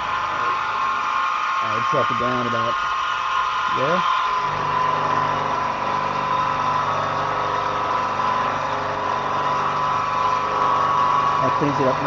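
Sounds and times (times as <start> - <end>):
low machine hum: 0.0 - 12.0
milling machine whine: 0.0 - 12.0.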